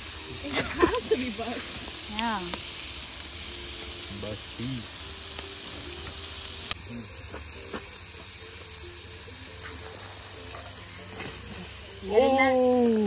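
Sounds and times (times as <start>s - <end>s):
meat sizzling on foil: 0.0s - 13.0s.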